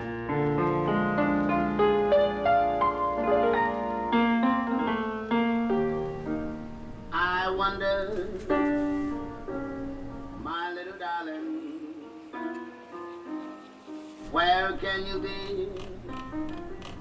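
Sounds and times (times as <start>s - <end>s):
piano playing slow held notes: 0.0s - 10.6s, 11.4s - 17.0s.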